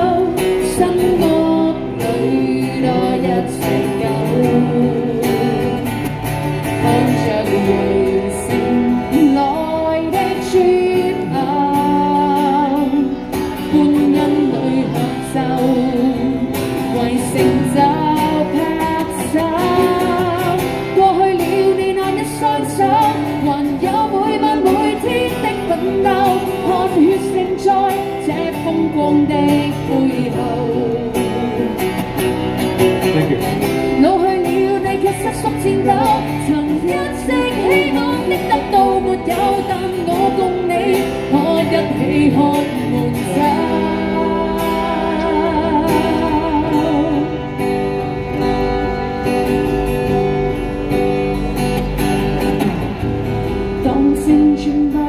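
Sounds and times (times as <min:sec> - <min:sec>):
man and woman singing pop song: 0:00.0 - 0:06.0, 0:06.6 - 0:31.9, 0:33.2 - 0:47.5, 0:53.8 - 0:55.0
strummed acoustic guitar: 0:00.0 - 0:55.0.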